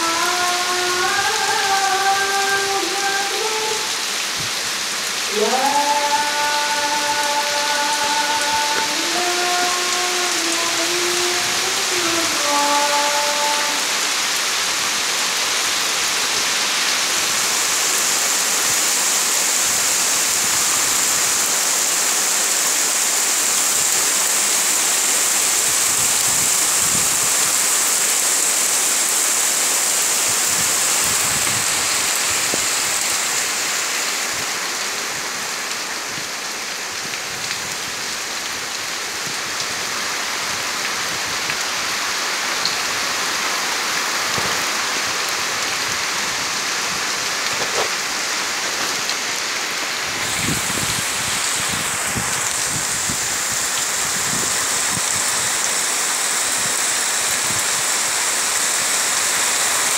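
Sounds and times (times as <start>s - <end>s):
heavy rain on foliage: 0.0s - 59.9s.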